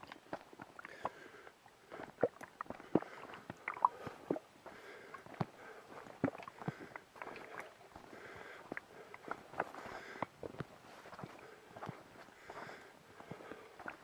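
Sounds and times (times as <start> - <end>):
footsteps on dirt trail: 1.9 - 14.0.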